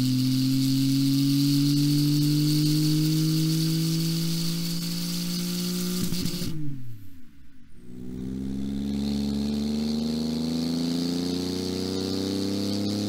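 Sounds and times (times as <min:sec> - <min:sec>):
sports car engine: 0:00.0 - 0:13.0.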